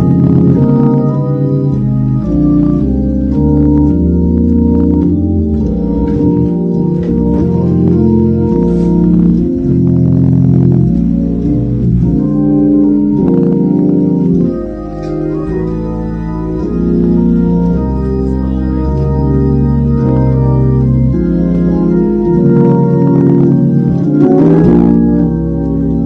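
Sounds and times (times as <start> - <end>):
organ playing held chords: 0.0 - 26.0.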